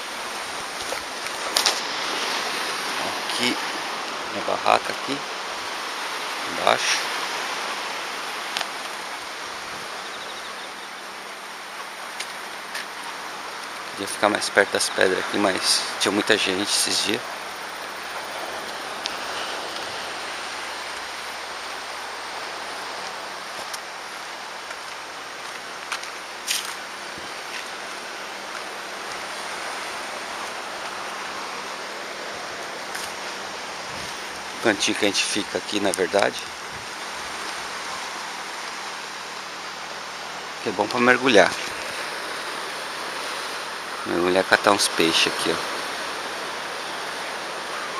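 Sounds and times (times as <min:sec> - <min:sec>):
sea surf washing onto beach: 0:00.0 - 0:47.9.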